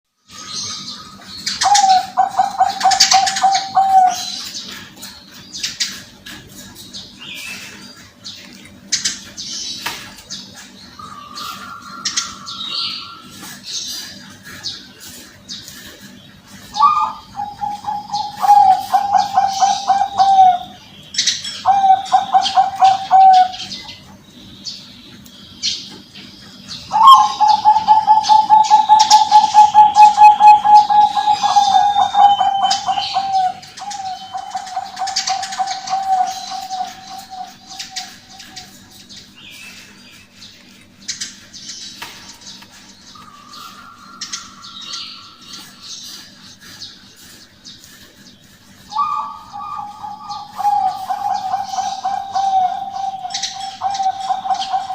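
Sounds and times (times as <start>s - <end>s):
bird trilling: 0.3s - 6.1s, 9.0s - 25.0s, 25.6s - 41.7s, 42.3s - 54.9s.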